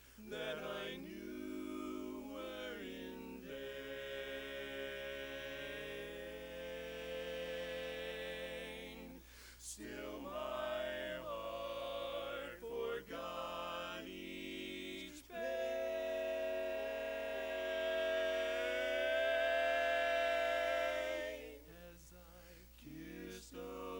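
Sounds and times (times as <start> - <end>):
male quartet singing a cappella: 0.0 - 23.9.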